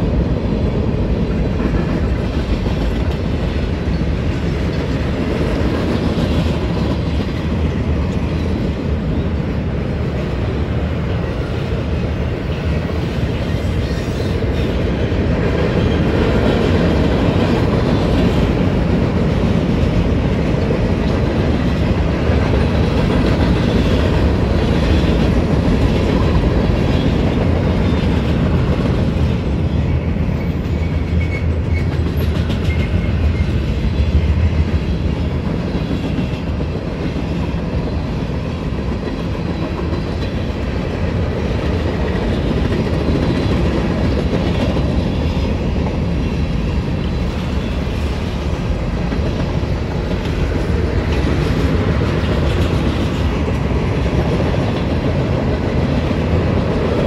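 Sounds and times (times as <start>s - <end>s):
steel wheels on rails: 0.0s - 57.0s.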